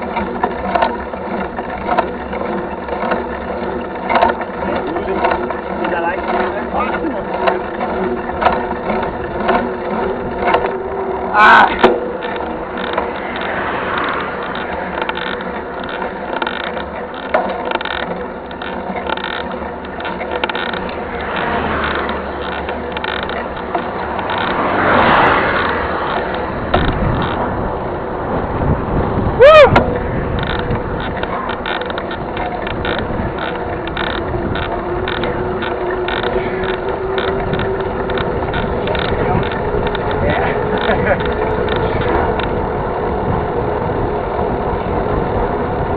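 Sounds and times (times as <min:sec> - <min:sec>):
bike freehub ratchet clicking: 0:00.0 - 0:27.6, 0:29.4 - 0:45.9
bike chain and frame rattling: 0:00.0 - 0:45.9.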